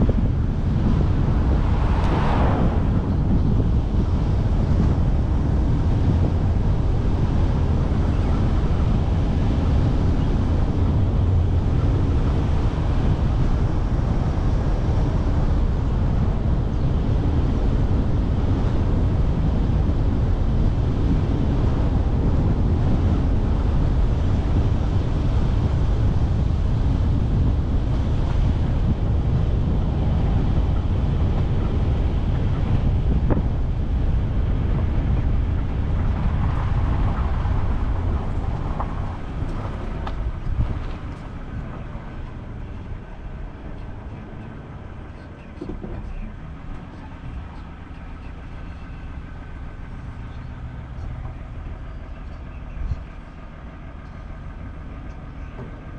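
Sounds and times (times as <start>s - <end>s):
car wind and road noise: 0.0s - 55.9s
wind buffeting microphone: 0.0s - 55.9s.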